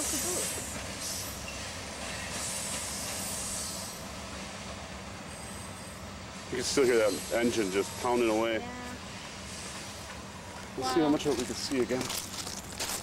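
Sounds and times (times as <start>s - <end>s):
distant diesel locomotives: 0.0s - 13.0s
train wheels rumbling on rails: 0.0s - 13.0s.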